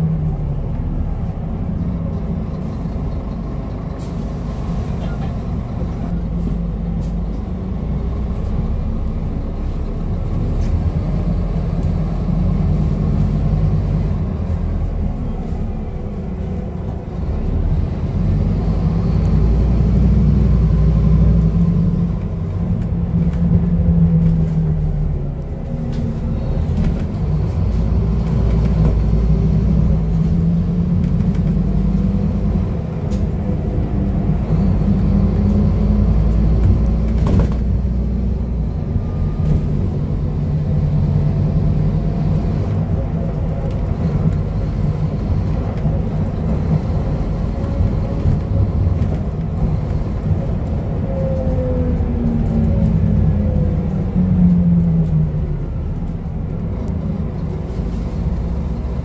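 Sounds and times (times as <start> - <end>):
bus diesel engine: 0.0 - 59.0
road noise: 0.0 - 59.0.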